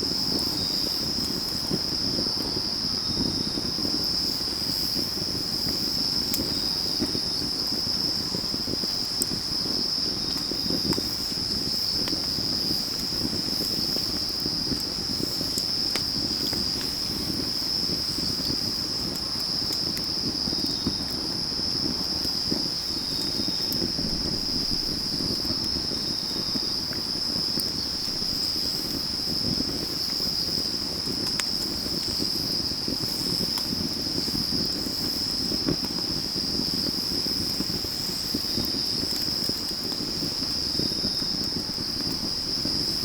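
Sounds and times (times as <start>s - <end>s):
crickets chirping at night: 0.0s - 43.0s
wood fire crackling and popping: 0.0s - 43.0s.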